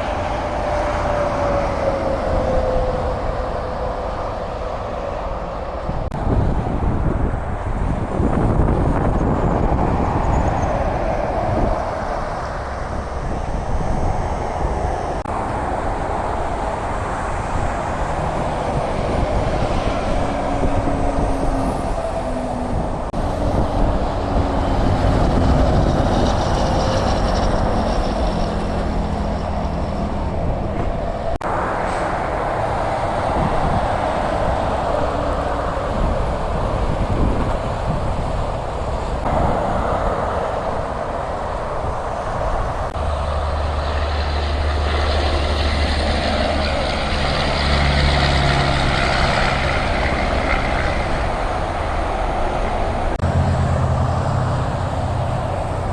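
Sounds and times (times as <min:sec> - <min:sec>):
truck engines: 0:00.0 - 0:55.9
tyre and road noise: 0:00.0 - 0:55.9.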